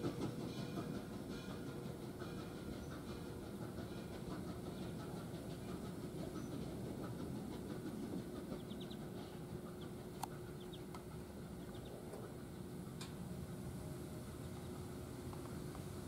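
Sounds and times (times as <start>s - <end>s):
steam locomotive rumble: 0.0s - 16.0s.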